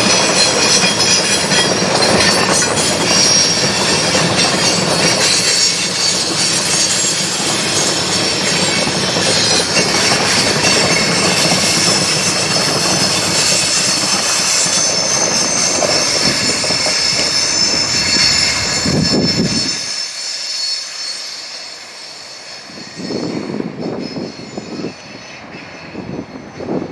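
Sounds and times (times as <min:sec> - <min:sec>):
train wheels squealing: 0:00.0 - 0:26.9
wheels rumbling and clacking on rail: 0:00.0 - 0:26.9.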